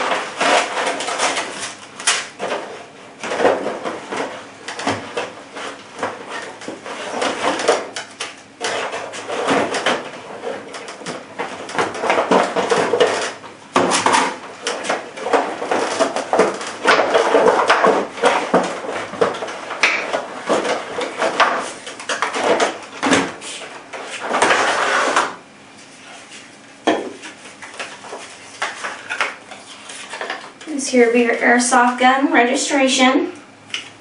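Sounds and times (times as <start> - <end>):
parts knocking and clattering: 0.0 - 25.4, 26.8 - 30.7.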